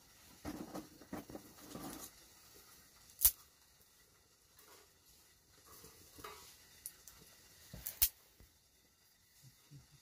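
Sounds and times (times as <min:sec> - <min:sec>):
fire crackling in wood stove: 0:00.0 - 0:10.0.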